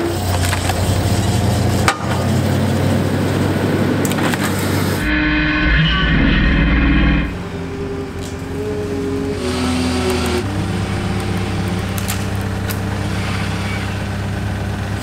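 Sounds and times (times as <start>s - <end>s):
machine engine hum: 0.0s - 15.0s
steady hydraulic whine: 0.0s - 15.0s.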